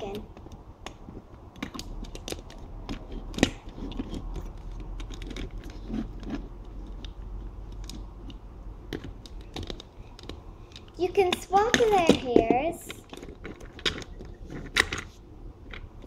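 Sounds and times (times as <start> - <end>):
plastic toy figures clicking: 0.0 - 14.2.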